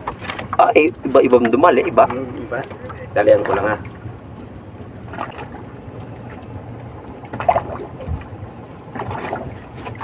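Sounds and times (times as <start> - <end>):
water noise around boat: 0.0 - 10.0
wind: 0.0 - 10.0.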